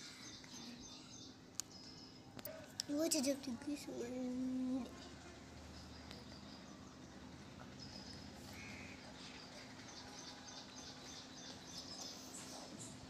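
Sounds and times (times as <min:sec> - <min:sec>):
bird chirping: 0:00.0 - 0:03.4, 0:04.5 - 0:13.0.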